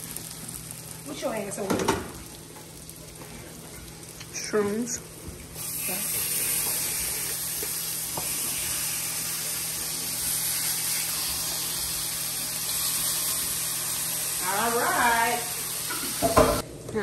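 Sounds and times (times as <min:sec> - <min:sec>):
meat sizzling in a pan: 0:00.0 - 0:16.6.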